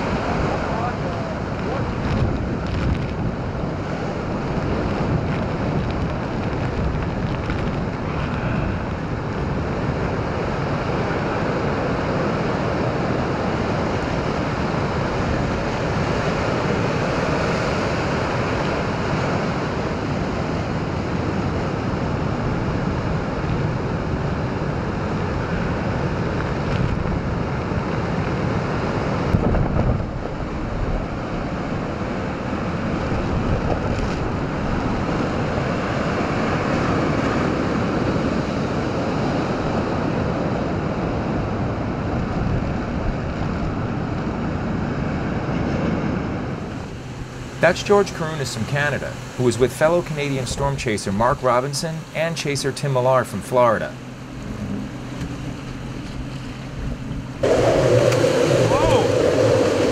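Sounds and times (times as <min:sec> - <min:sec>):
wind buffeting microphone: 0:00.0 - 0:52.0, 0:54.0 - 0:59.9
heavy surf breaking: 0:00.0 - 0:59.9.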